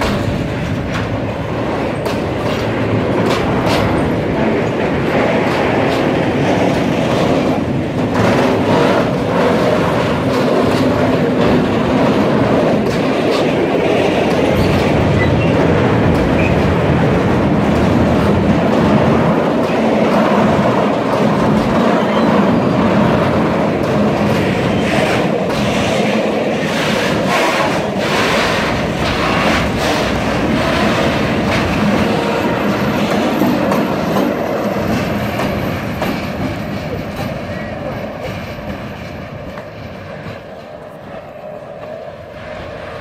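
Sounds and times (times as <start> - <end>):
wheels clacking over rail joints: 0.0 - 41.0
train rumble: 0.0 - 43.0.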